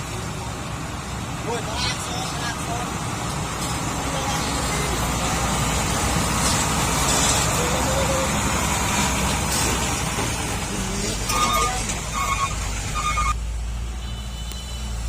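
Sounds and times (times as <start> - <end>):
dump truck passing: 0.0 - 14.0.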